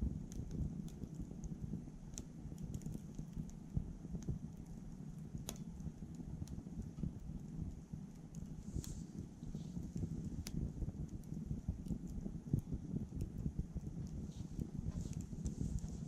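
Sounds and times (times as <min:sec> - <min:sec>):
low rumble of flame: 0:00.0 - 0:16.0
wood crackling and popping: 0:00.0 - 0:16.0.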